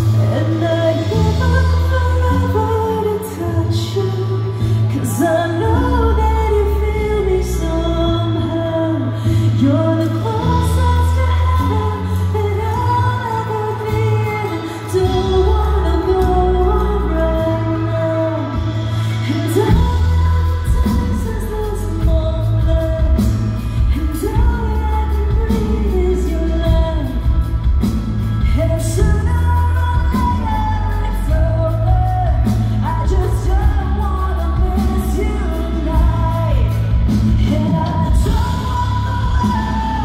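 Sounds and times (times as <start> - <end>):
woman singing rock ballad: 0.0 - 40.0.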